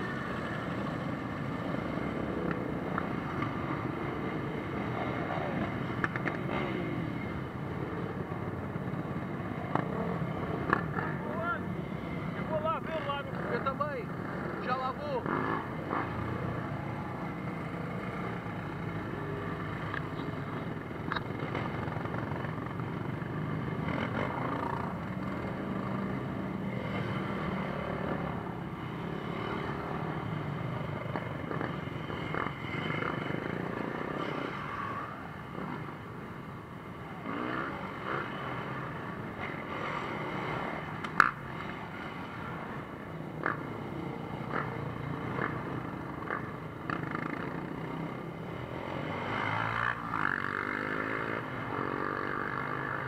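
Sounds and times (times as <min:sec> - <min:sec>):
quad bikes and motorcycles passing: 0:00.0 - 0:53.0.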